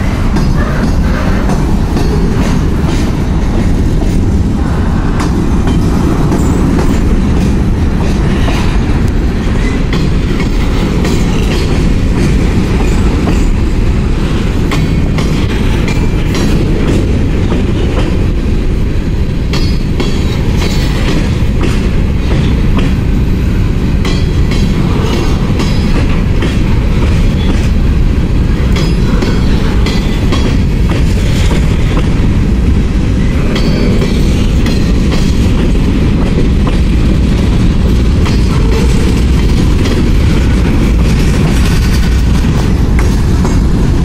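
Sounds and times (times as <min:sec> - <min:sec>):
wheels clacking over rail joints: 0:00.0 - 0:18.7, 0:19.4 - 0:44.0
train wheels rumbling on rail: 0:00.0 - 0:44.0.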